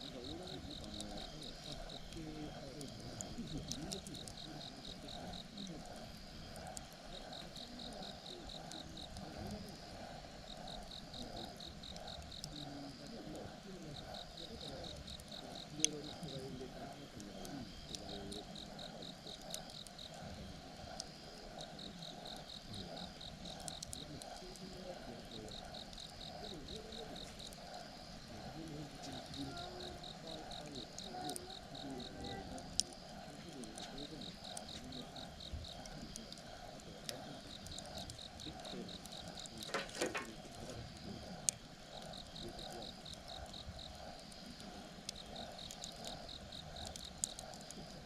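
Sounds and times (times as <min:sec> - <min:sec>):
campfire crackling and popping: 0:00.0 - 0:48.0
insects chirping: 0:00.0 - 0:48.0.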